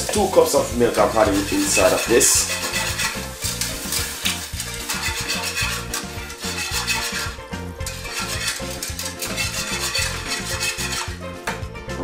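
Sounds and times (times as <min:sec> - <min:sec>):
wire whisk stirring in metal pot: 0:00.0 - 0:11.3
background music with steady beat: 0:00.0 - 0:12.0.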